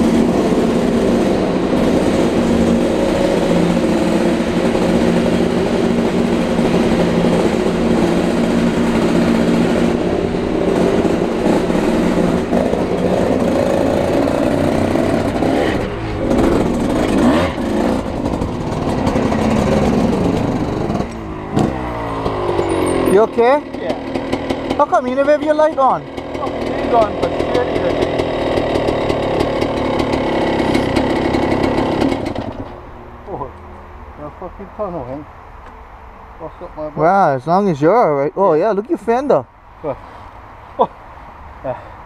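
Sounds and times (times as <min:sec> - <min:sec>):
dirt bike engine running: 0:00.0 - 0:34.4.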